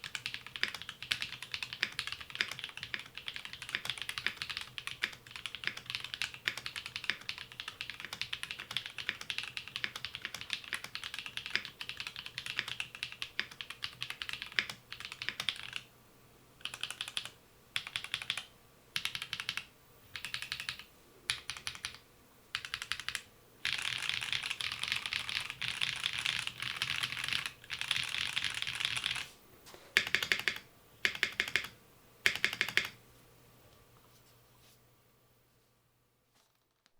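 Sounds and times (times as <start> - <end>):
mechanical keyboard typing: 0.0 - 15.9, 16.6 - 29.3, 30.0 - 33.0.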